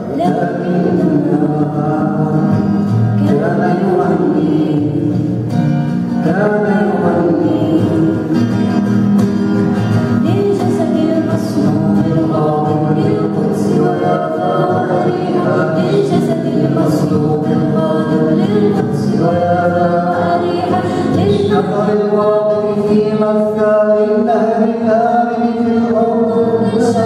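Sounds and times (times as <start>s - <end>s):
girl singing into microphone: 0.0s - 5.2s, 6.3s - 8.5s, 10.2s - 23.3s, 25.2s - 27.0s
plucked string instrument: 0.0s - 27.0s.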